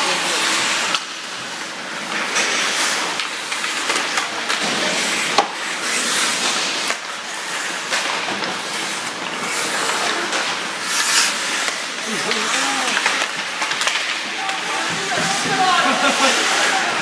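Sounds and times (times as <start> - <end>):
hockey sticks clattering: 0.0 - 17.0
skate blades scraping ice: 0.0 - 17.0.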